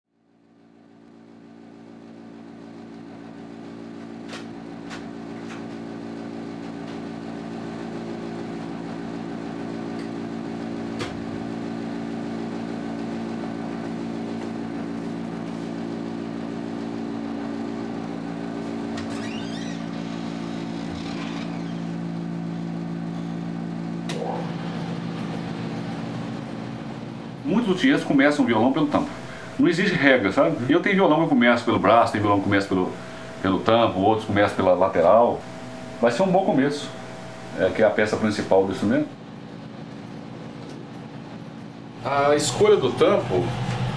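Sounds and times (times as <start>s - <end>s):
low machine hum: 0.2s - 43.9s.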